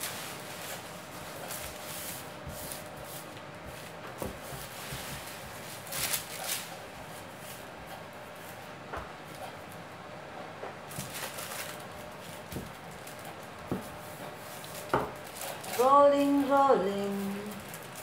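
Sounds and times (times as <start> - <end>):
baking paper rustling: 0.0 - 10.0, 10.7 - 18.0.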